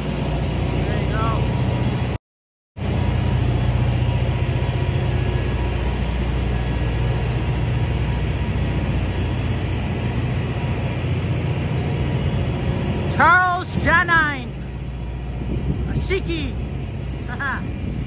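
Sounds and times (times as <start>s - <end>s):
generator humming: 0.0s - 2.2s, 2.8s - 18.0s.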